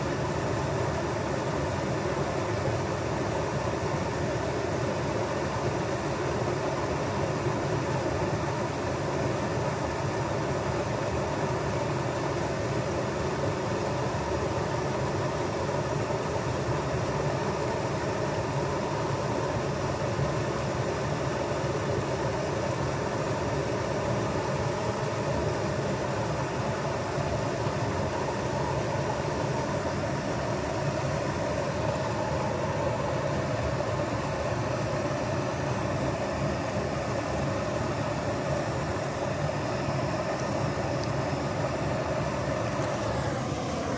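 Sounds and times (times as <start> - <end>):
small waterfall rushing over rocks: 0.0 - 43.9.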